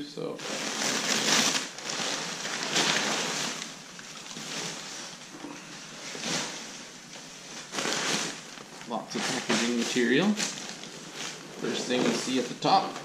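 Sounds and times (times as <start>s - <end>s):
plastic bags and paper rustling: 0.3s - 13.0s.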